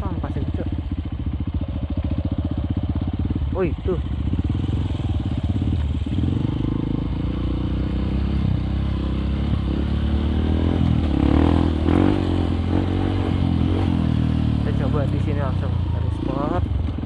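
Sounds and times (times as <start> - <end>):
motorcycle engine running at low speed: 0.0 - 17.0.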